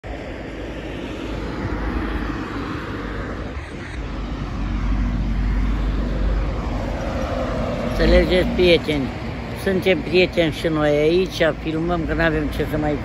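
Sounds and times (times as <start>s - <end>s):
vehicle passing: 0.1s - 13.0s.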